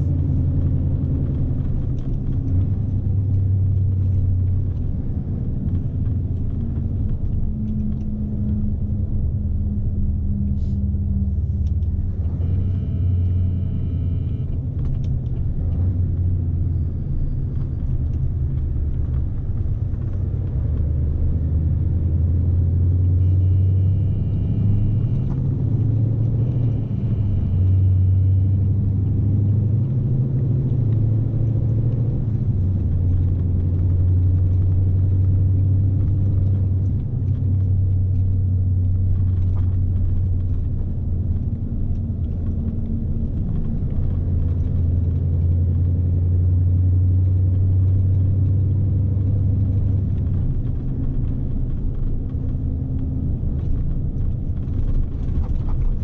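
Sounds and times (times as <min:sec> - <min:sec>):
diesel engine low rumble: 0:00.0 - 0:56.0.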